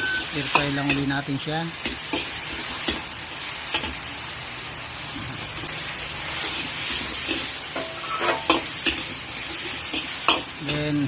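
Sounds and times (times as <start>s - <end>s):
meat sizzling in a hot pan: 0.0s - 11.0s.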